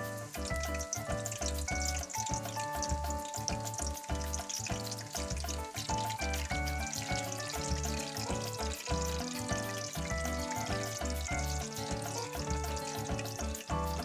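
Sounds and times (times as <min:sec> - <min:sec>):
background music with beat: 0:00.0 - 0:14.0
food sizzling in oil: 0:00.0 - 0:14.0.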